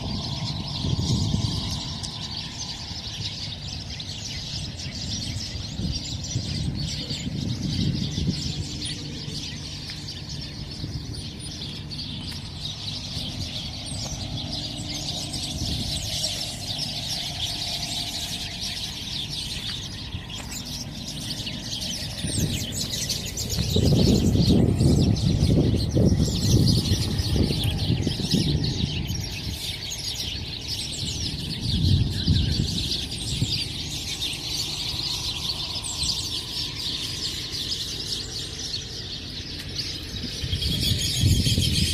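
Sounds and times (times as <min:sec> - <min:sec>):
birds chirping in chorus: 0:00.0 - 0:41.9.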